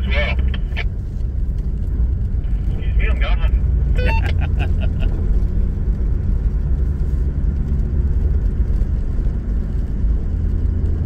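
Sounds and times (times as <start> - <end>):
car driving on gravel: 0.0 - 11.0.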